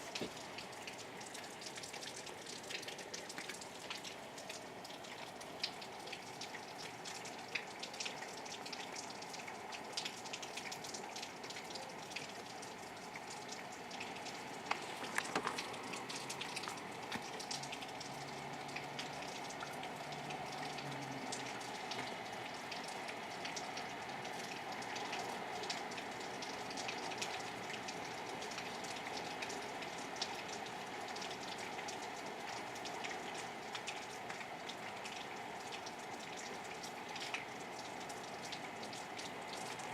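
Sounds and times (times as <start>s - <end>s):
raindrops hitting sharply: 0.0s - 39.9s
steady rain falling: 0.0s - 39.9s.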